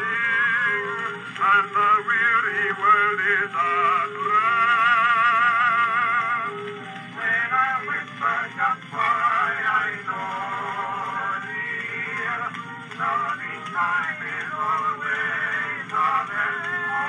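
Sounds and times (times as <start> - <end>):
phonograph playing old music: 0.0 - 17.0.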